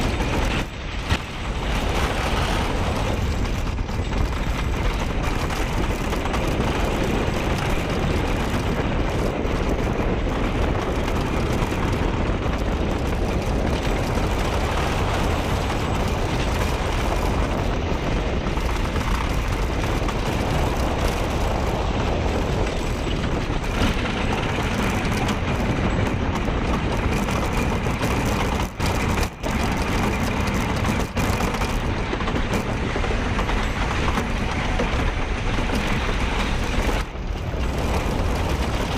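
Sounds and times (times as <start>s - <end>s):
roller coaster rumbling on track: 0.0s - 38.9s
rush of wind: 0.0s - 38.9s.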